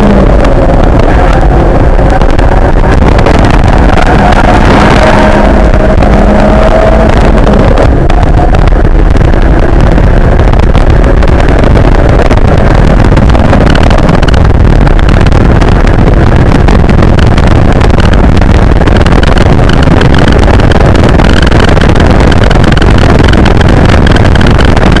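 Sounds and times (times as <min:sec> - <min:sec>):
car engine running at speed: 0:00.0 - 0:25.0
road and wind noise: 0:00.0 - 0:25.0.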